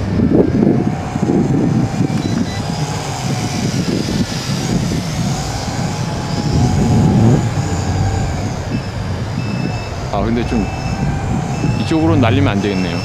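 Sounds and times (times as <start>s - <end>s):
wind buffeting microphone: 0.0s - 13.0s
toy drone motors whining: 0.2s - 13.0s.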